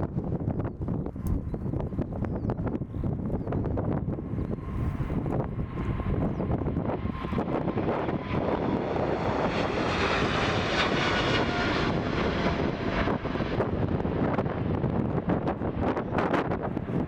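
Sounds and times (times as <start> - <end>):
jet engines roaring past: 0.0 - 17.0
wind buffeting microphone: 0.0 - 17.0.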